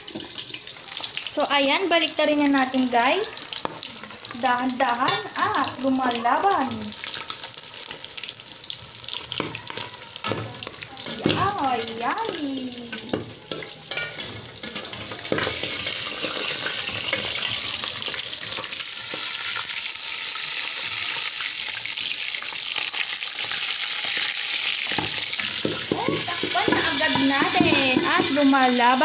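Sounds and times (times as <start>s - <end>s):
fish sizzling in hot oil: 0.0s - 29.0s.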